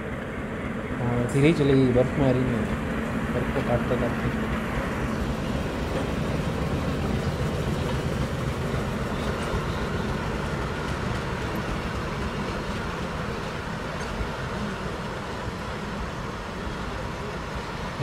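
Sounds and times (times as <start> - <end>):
diesel train rumbling past: 0.0 - 18.0.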